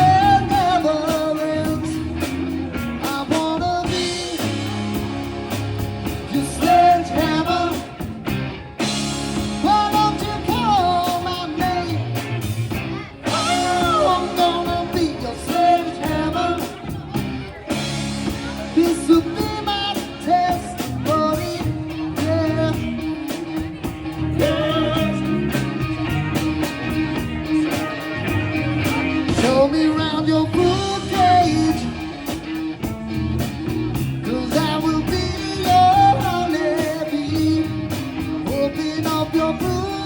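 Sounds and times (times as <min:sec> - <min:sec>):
person singing lead vocal: 0:00.0 - 0:04.8, 0:06.0 - 0:08.3, 0:09.4 - 0:32.6, 0:34.0 - 0:40.0
electric guitar: 0:00.0 - 0:40.0
steady drum beat: 0:00.0 - 0:40.0.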